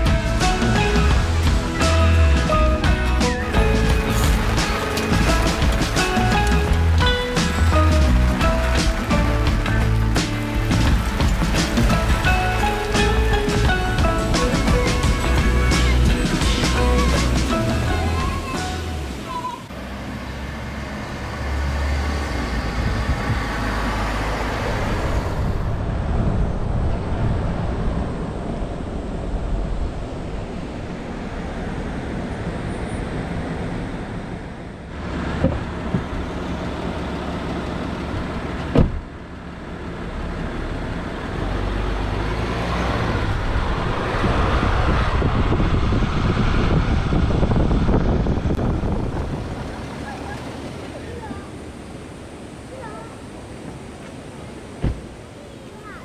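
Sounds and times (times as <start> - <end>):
car driving road noise: 0.0 - 56.0.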